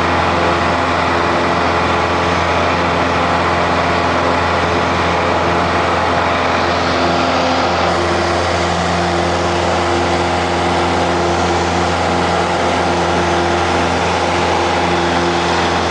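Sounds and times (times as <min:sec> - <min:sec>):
light aircraft engine droning: 0:00.0 - 0:15.9.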